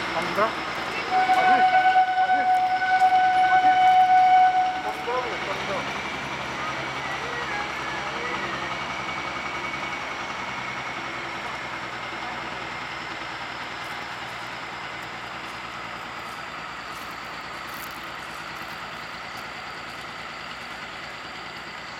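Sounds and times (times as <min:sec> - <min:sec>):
diesel locomotive engine running: 0:00.0 - 0:21.9.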